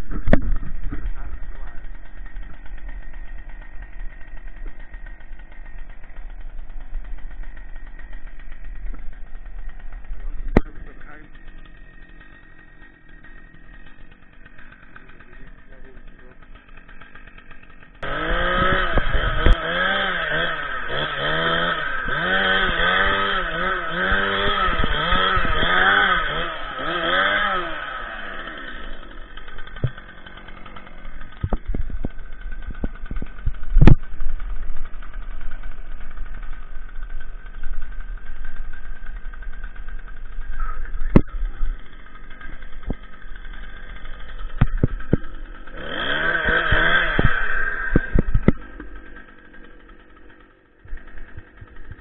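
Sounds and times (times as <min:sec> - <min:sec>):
chainsaw revving: 0:00.0 - 0:52.0
engine idling: 0:00.0 - 0:52.0.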